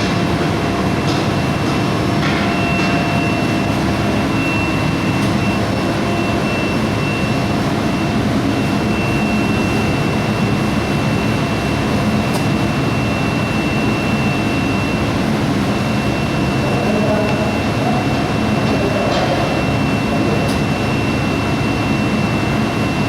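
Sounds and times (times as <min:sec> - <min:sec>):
furnace high-pitched whine: 0:00.0 - 0:23.0
furnace rumble and hiss: 0:00.0 - 0:23.0.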